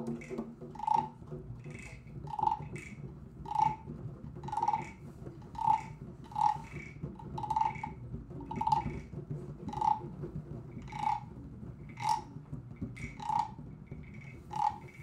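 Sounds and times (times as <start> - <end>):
hand drums tapped: 0.0 - 15.0
low steady background noise: 0.0 - 15.0.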